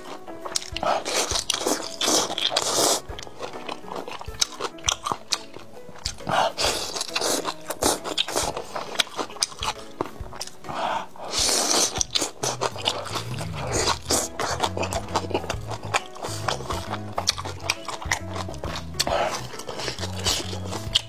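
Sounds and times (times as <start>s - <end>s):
soft background music: 0.0s - 21.0s
wet chewing and lip smacking: 0.0s - 21.0s.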